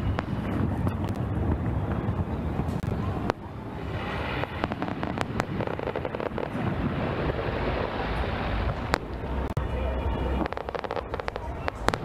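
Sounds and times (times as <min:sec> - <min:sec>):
fireworks bangs: 0:00.0 - 0:12.0
fireworks cracks: 0:00.0 - 0:12.0
steady low rumble: 0:00.0 - 0:12.0.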